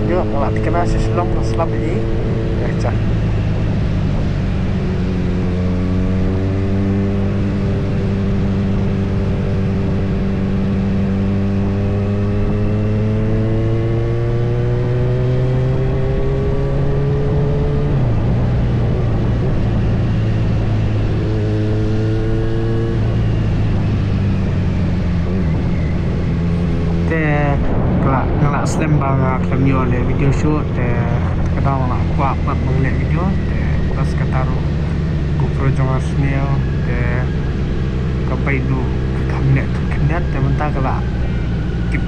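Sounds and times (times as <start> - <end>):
motorcycle engine revving: 0.0 - 42.0
wind and road noise: 0.0 - 42.0.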